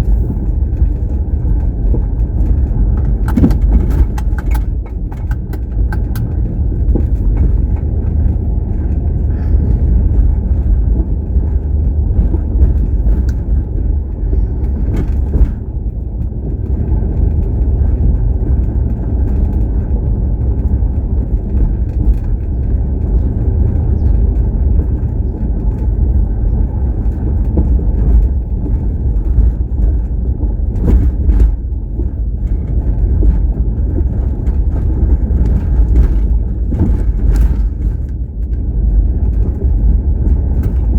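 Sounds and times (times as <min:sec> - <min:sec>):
car road and engine rumble: 0:00.0 - 0:40.9
faint clicks and knocks: 0:00.0 - 0:40.9.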